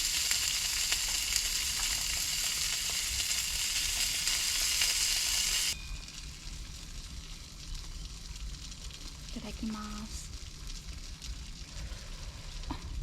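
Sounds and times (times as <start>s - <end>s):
food sizzling in frying: 0.0s - 13.0s.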